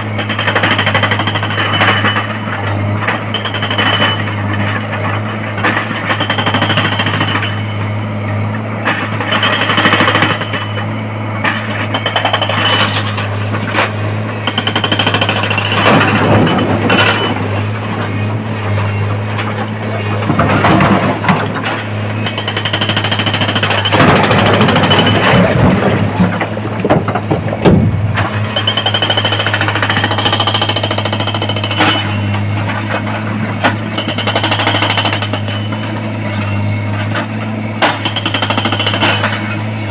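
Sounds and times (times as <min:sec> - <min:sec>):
diesel engine running: 0:00.0 - 0:39.9
hydraulic breaker hammering rock: 0:00.0 - 0:39.9.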